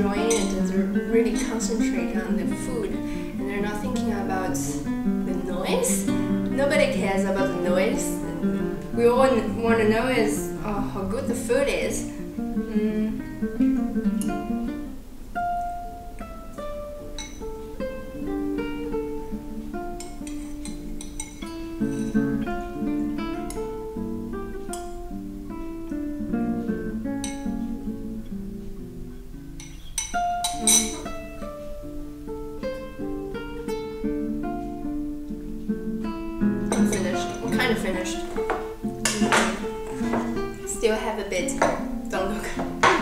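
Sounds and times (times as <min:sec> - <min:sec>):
acoustic guitar picking: 0:00.0 - 0:43.0.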